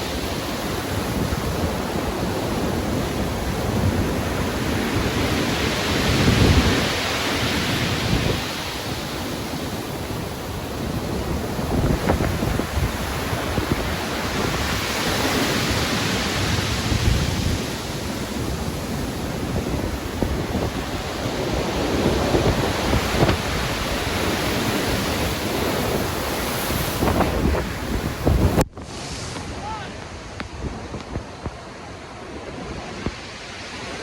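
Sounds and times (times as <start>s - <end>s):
surf rushing: 0.0s - 34.0s
wind: 0.0s - 34.0s.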